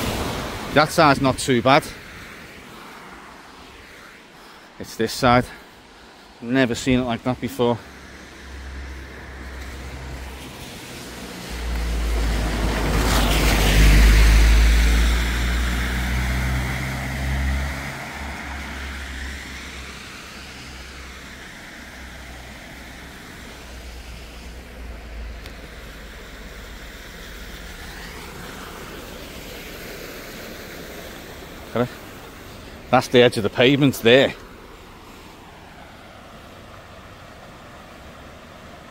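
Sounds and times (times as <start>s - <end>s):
rushing splash of water: 0.0s - 4.4s, 7.8s - 38.9s
moving water wash: 0.0s - 38.9s
car engine rumble: 2.1s - 38.9s.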